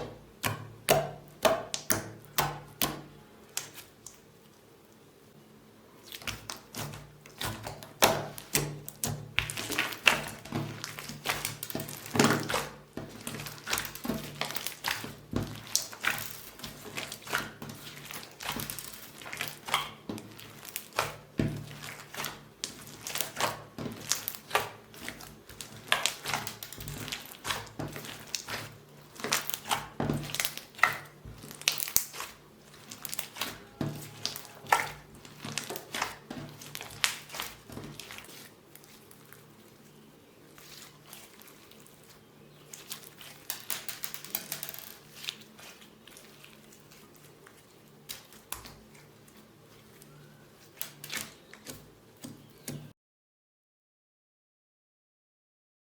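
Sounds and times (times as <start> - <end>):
hands squishing crackling slime: 0.0 - 4.3, 6.0 - 52.9.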